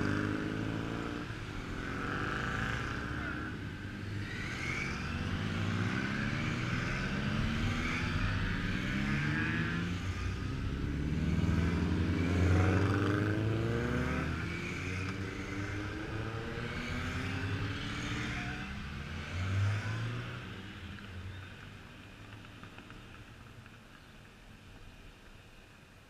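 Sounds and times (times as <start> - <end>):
motorcycles riding past: 0.0 - 24.0.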